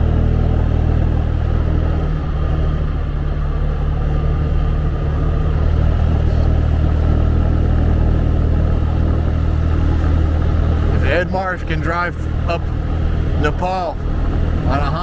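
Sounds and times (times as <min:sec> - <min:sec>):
motorbike engine running under load: 0:00.0 - 0:15.0.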